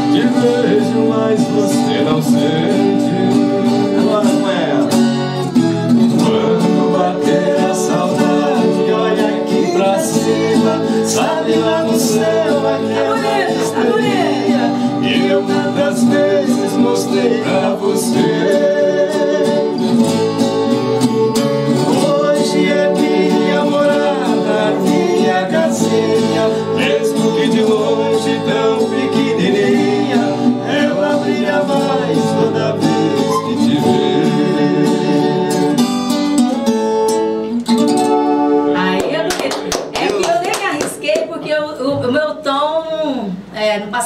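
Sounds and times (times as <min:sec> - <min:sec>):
person singing: 0:00.0 - 0:35.9
plucked guitar melody: 0:00.0 - 0:39.9.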